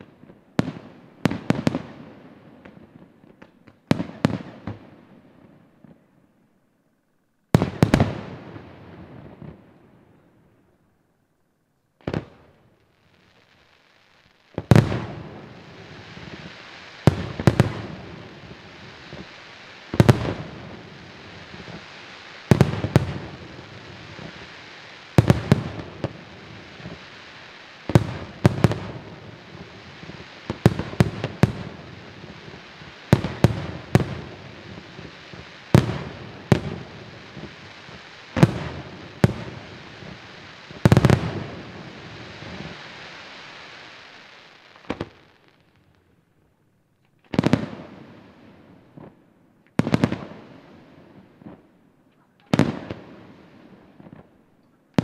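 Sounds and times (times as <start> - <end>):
firework bangs: 0.0 - 6.1, 7.5 - 9.9, 12.0 - 46.0, 47.2 - 51.7, 52.4 - 55.0
steady hiss: 0.0 - 55.0.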